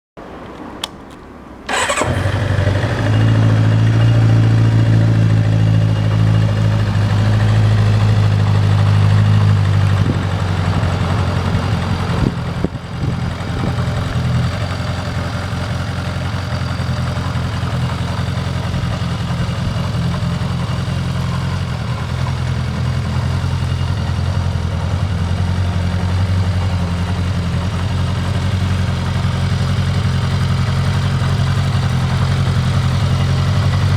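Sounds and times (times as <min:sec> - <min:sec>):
motorcycle engine idling: 0:01.7 - 0:33.9
motorcycle engine starting: 0:01.7 - 0:33.9.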